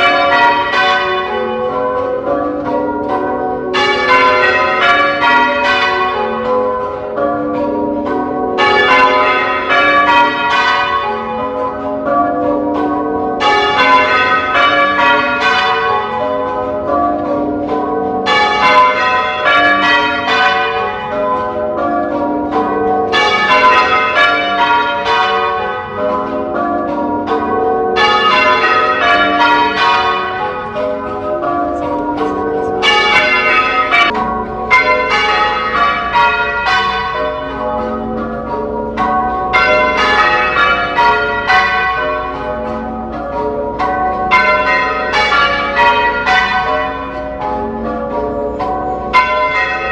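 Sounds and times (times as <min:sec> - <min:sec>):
church bells change-ringing: 0:00.0 - 0:49.9.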